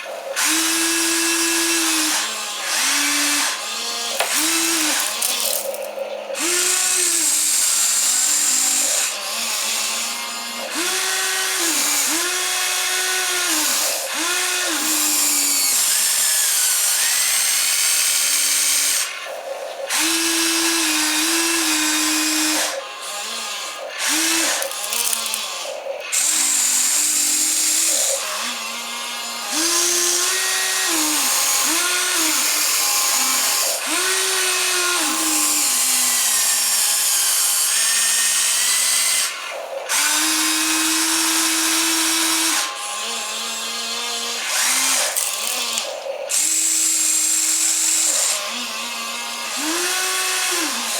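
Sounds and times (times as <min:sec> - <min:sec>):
small electric motors whining: 0:00.0 - 0:50.9.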